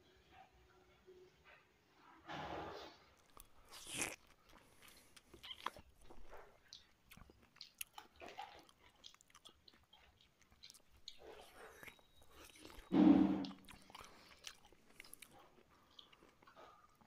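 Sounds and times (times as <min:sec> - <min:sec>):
chewing and mouth clicks: 0:03.2 - 0:17.0.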